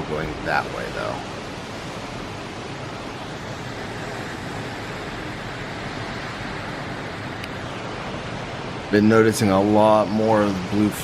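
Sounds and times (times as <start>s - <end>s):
strong wind gusting: 0.0s - 11.0s.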